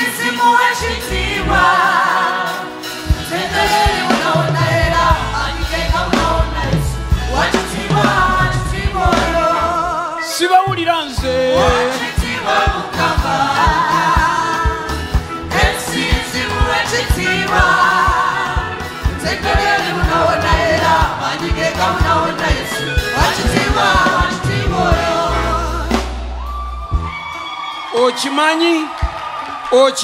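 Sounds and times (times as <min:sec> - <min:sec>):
choir singing: 0:00.0 - 0:10.3, 0:11.1 - 0:26.3
band with drum beat: 0:00.1 - 0:29.7.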